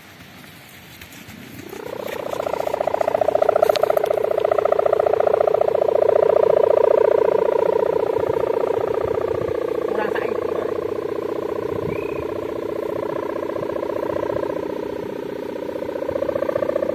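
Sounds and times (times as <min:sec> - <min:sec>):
kite hummer buzzing in wind: 0:00.0 - 0:16.9.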